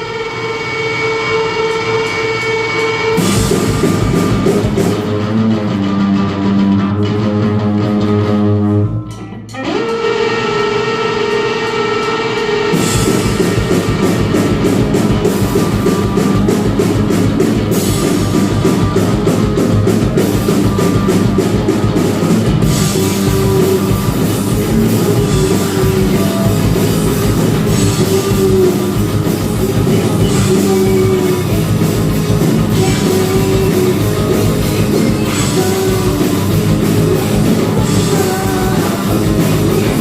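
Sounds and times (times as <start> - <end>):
drum kit: 0.0 - 40.0
electric guitar: 0.0 - 40.0
rock band playing: 0.0 - 40.0.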